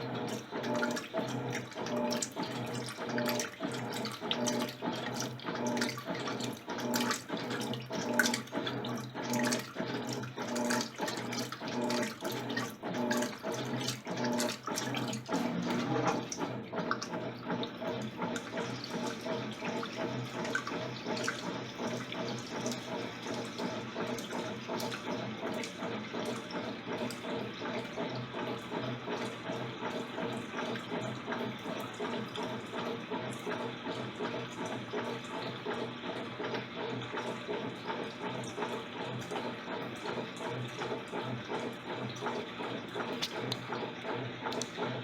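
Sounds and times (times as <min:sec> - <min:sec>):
pulsing motor hum: 0:00.0 - 0:45.0
washing machine water churning: 0:00.0 - 0:45.0.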